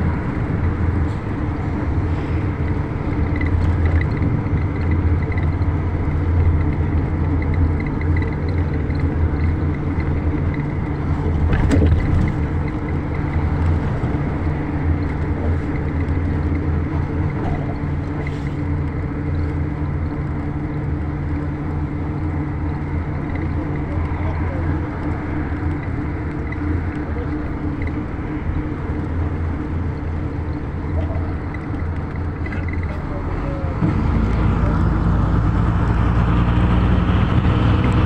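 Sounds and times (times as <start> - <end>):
vehicle engine and tyres rumbling: 0.0 - 38.0.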